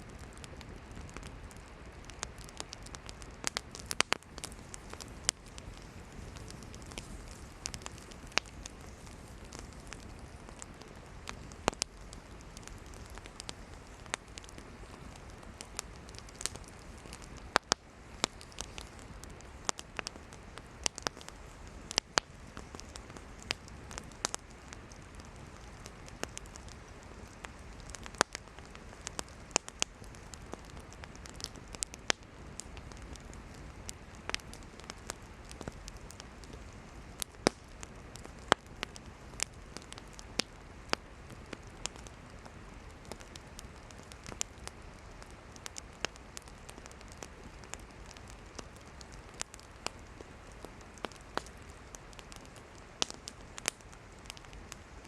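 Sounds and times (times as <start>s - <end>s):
campfire crackling and popping: 0.0s - 55.0s
low rush of flame: 0.0s - 55.0s.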